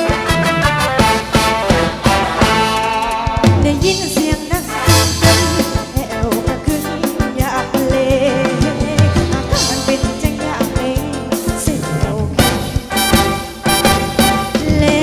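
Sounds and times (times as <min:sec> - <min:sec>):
upbeat dance band music: 0:00.0 - 0:15.0.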